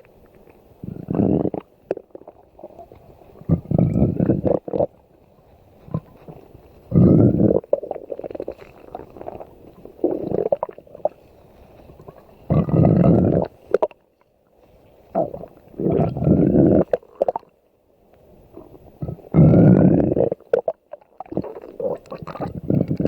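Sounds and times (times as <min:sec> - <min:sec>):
stomach growling: 0:00.0 - 0:11.2, 0:11.8 - 0:14.0, 0:15.1 - 0:17.5, 0:18.4 - 0:23.0
stomach gurgles: 0:00.0 - 0:23.0.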